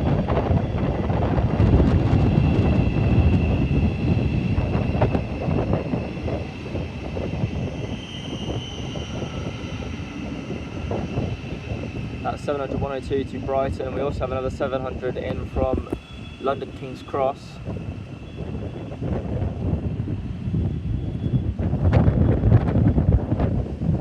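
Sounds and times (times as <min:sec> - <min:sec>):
electric train running past: 0:00.0 - 0:24.0
wind buffeting microphone: 0:00.0 - 0:24.0.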